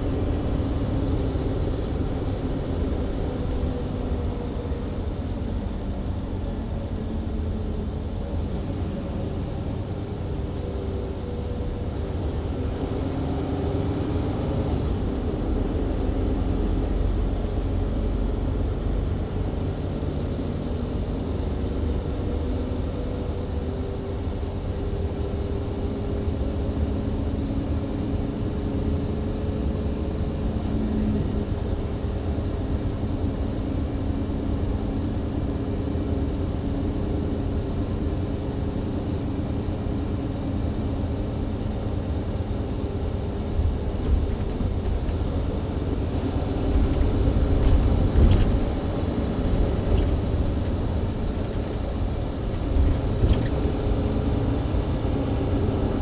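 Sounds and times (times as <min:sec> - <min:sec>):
bus diesel engine running: 0:00.0 - 0:56.0
road and tyre rumble: 0:00.0 - 0:56.0.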